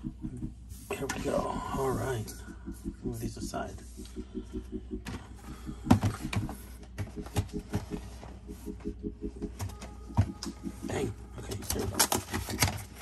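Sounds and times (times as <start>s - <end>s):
faint low pulsing: 0.0s - 13.0s.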